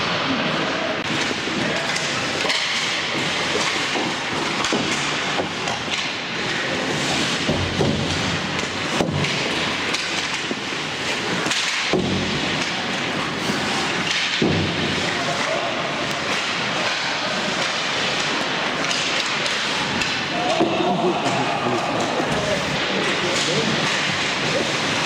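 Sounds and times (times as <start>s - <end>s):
skates scraping ice: 0.1s - 25.0s
hockey sticks clacking on puck: 1.0s - 25.0s.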